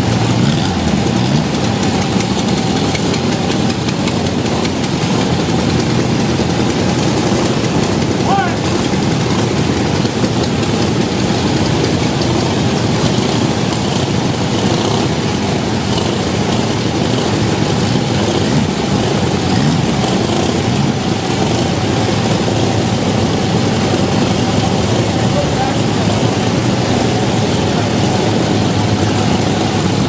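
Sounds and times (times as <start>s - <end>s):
motorcycle engines running: 0.0s - 30.0s.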